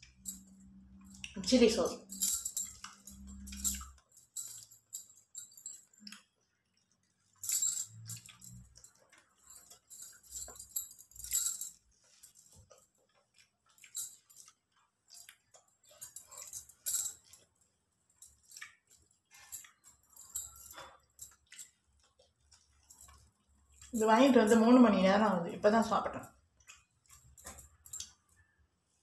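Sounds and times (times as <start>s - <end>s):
metal bangles jingling: 0.0s - 6.2s, 7.3s - 28.6s.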